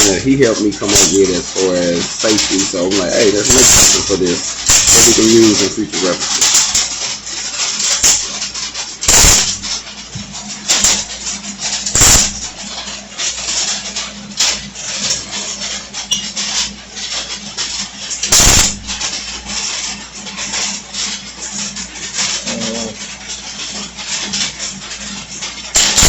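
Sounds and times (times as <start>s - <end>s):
steady low hum: 0.0s - 26.0s
welding arc crackling: 0.0s - 26.0s.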